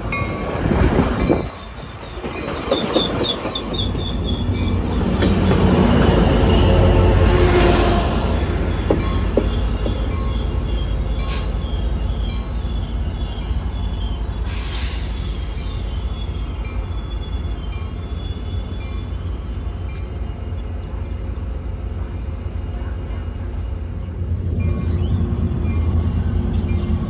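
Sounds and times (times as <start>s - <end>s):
diesel locomotive rumbling: 0.0s - 27.0s.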